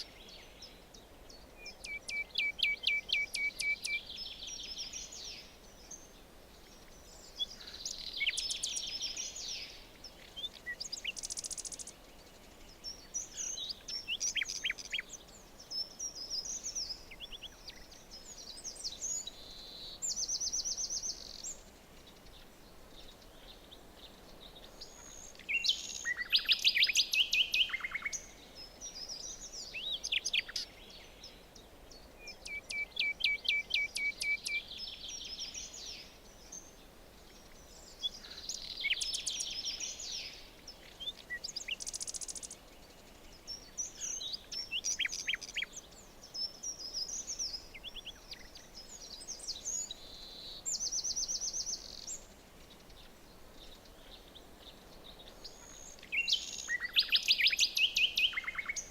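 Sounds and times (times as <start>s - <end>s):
birds chirping and trilling: 0.0s - 58.9s
faint background hiss: 0.0s - 58.9s.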